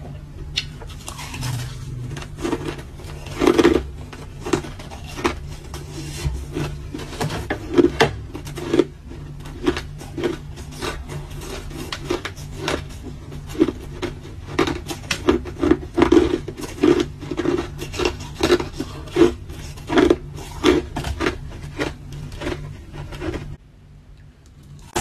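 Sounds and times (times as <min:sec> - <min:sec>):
ice being chewed: 0:00.6 - 0:23.6.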